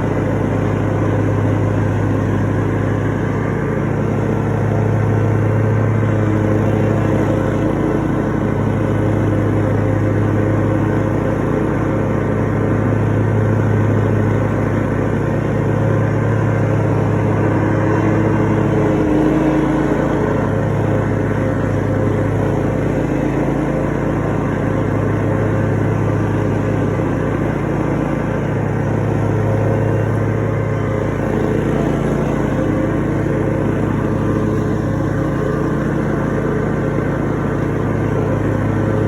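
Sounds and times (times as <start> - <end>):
lawn mower engine drone: 0.0 - 39.0.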